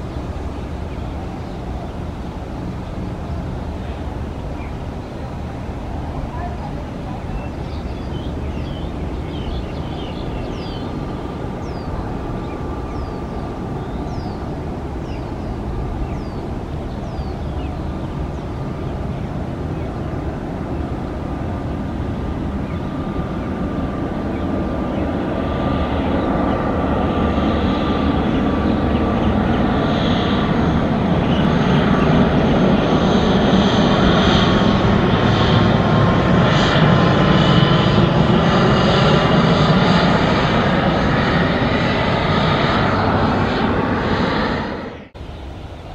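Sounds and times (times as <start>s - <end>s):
turboprop airliner engines humming: 0.0s - 45.9s.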